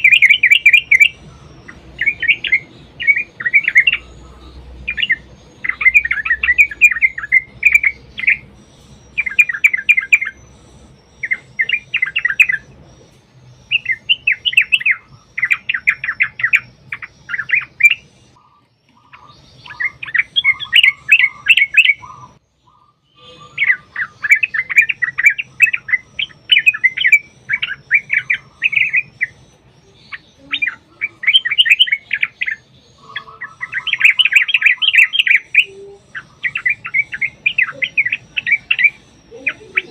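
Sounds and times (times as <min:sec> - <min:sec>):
bird singing rapid chattering song: 0:00.0 - 0:39.9.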